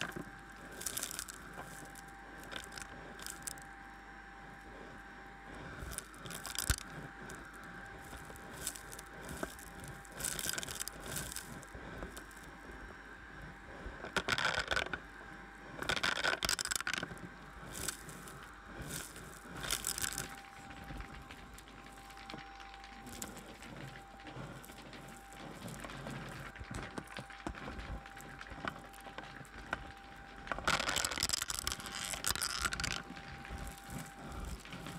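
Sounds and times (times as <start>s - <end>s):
debris crackling up the wand: 0.0s - 3.7s, 5.6s - 12.6s, 15.8s - 34.9s
vacuum cleaner motor whine: 0.0s - 34.9s.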